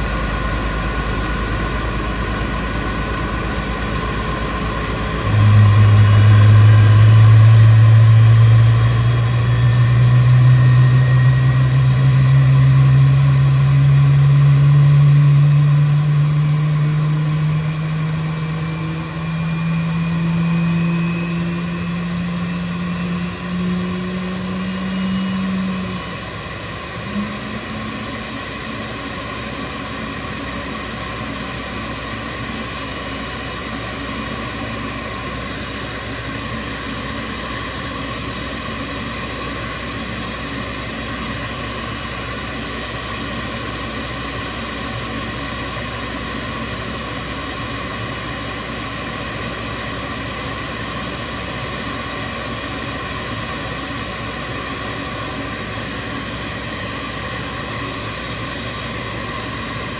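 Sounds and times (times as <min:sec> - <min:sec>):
jet engine idling with whine: 0:00.0 - 0:59.9.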